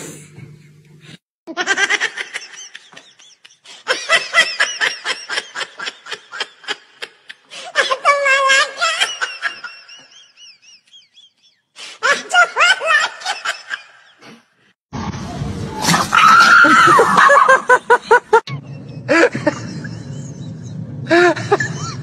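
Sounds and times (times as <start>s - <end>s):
person giggling: 1.5s - 14.4s, 17.0s - 22.0s.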